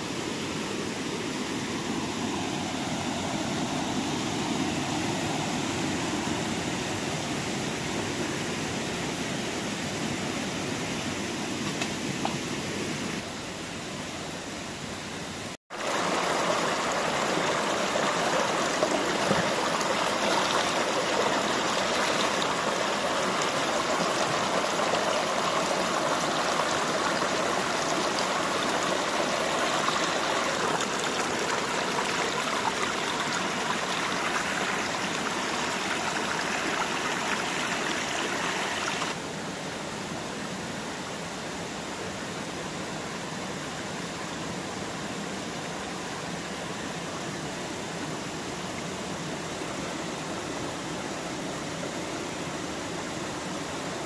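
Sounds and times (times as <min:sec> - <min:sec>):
stream running over rocks: 0:00.0 - 0:08.8, 0:15.7 - 0:54.0.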